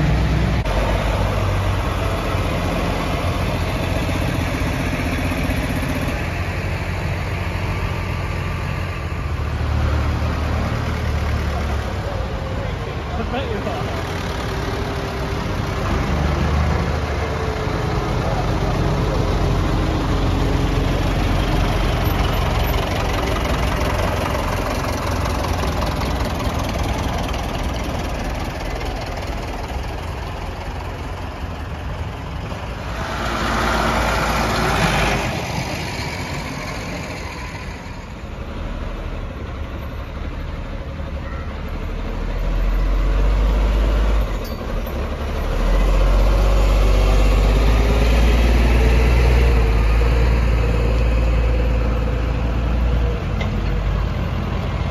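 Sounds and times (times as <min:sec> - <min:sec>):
diesel tractors passing: 0:00.0 - 0:54.9.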